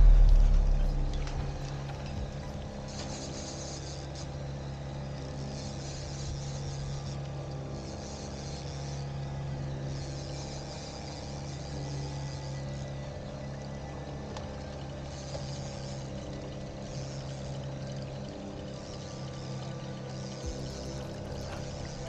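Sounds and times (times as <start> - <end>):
boat engine humming: 0.0 - 22.0
fishing reel whirring: 2.9 - 14.0, 14.6 - 22.0.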